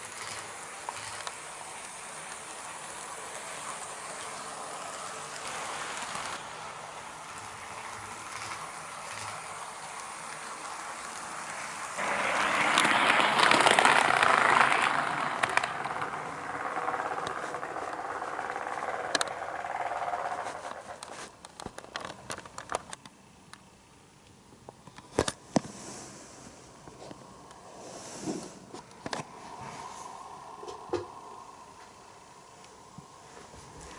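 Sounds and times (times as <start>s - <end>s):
model train rolling on track: 0.0s - 23.0s, 26.3s - 33.9s.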